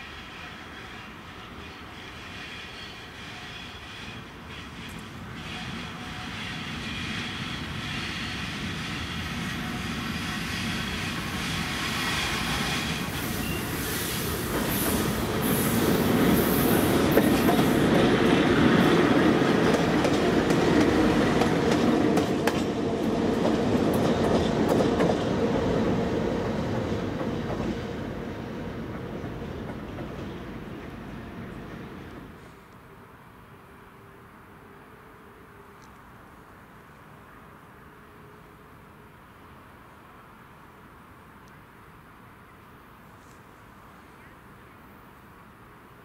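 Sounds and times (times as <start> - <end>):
electric locomotive passing: 0.0 - 40.8.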